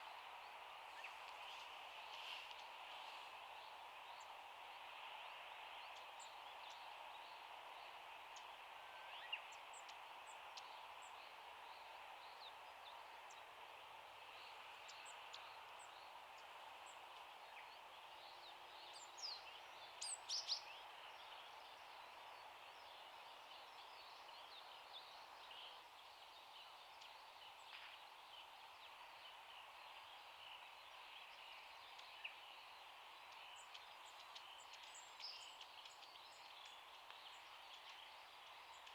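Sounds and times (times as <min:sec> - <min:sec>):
faint outdoor hiss: 0:00.0 - 0:38.9.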